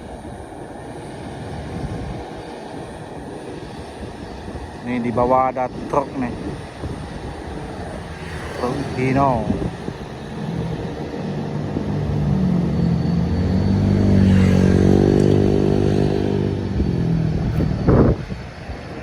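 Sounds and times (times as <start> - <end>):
diesel truck passing by: 2.8 - 19.0.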